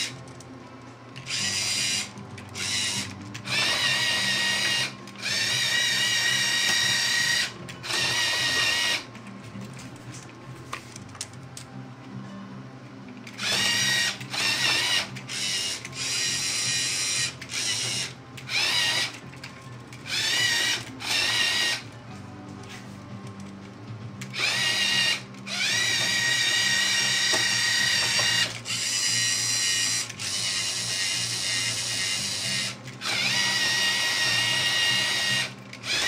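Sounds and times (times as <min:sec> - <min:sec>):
motors whining: 0:00.0 - 0:00.6, 0:01.2 - 0:09.7, 0:13.1 - 0:22.3, 0:24.2 - 0:36.0.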